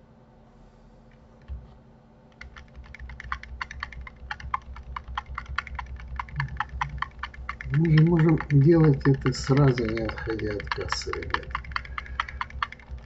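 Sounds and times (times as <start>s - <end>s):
keyboard keys clicking: 2.4s - 13.0s.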